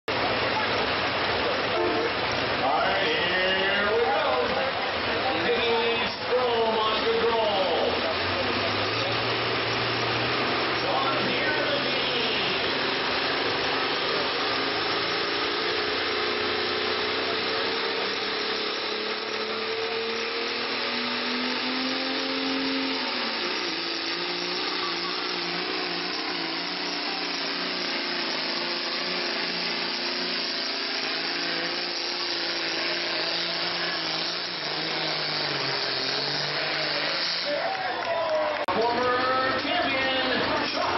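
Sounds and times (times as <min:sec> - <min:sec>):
tractor engine running flat out: 0:00.1 - 0:40.9.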